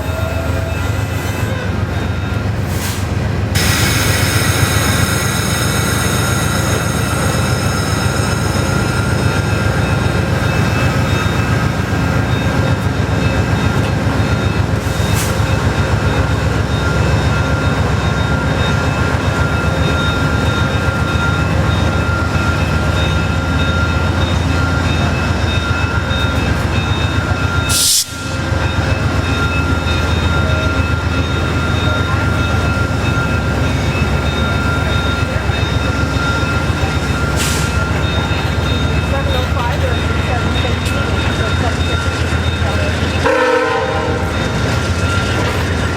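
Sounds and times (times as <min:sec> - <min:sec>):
diesel locomotive engine drone: 0:00.0 - 0:45.9.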